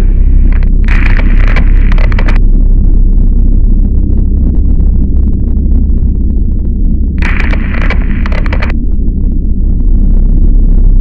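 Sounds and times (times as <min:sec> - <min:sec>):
faint crackle: 0:00.0 - 0:11.0
loud low rumble: 0:00.0 - 0:11.0.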